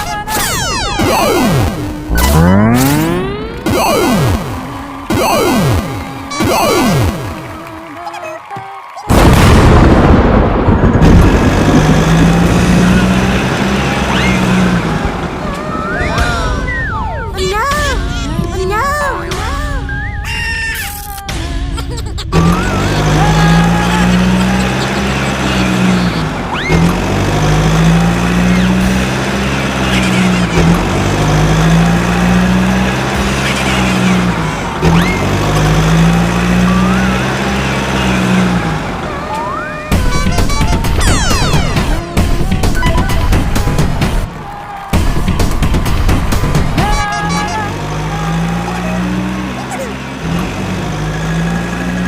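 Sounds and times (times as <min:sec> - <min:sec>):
loud rumbling noise: 0:00.0 - 0:20.3, 0:21.3 - 0:52.0
vehicle engine hum: 0:00.0 - 0:52.0.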